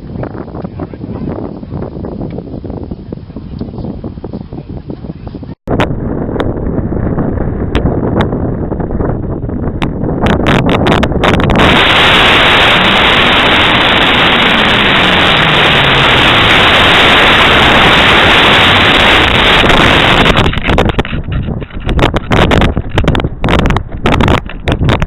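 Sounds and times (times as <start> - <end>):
air rushing over microphone: 0.0 - 25.0.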